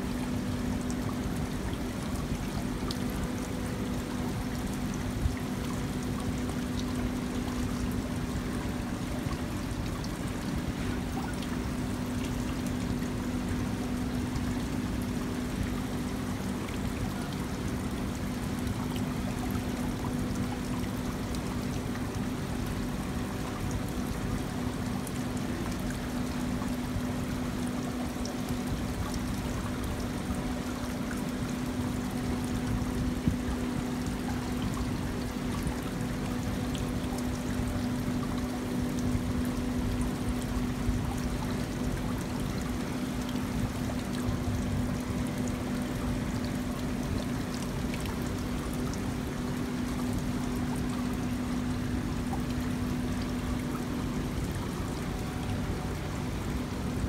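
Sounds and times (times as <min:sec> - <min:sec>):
fountain water trickling and splashing: 0:00.0 - 0:57.0.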